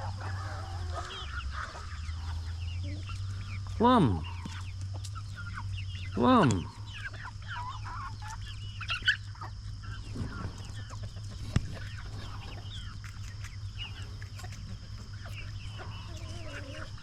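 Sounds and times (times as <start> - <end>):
chickens clucking: 0.0 - 17.0
steady low hum: 0.0 - 17.0.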